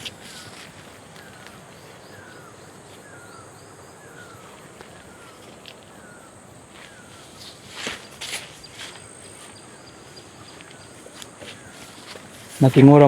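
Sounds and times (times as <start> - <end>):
background hiss: 0.0 - 13.0
high insect drone: 0.0 - 13.0.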